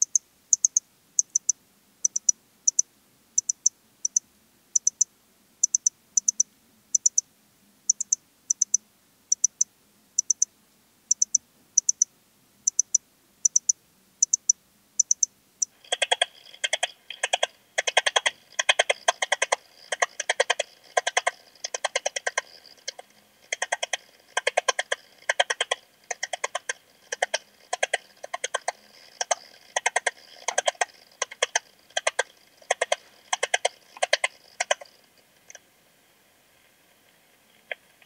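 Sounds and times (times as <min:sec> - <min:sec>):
cricket chirping clicks: 0:00.0 - 0:07.3, 0:07.9 - 0:10.5, 0:11.1 - 0:35.6.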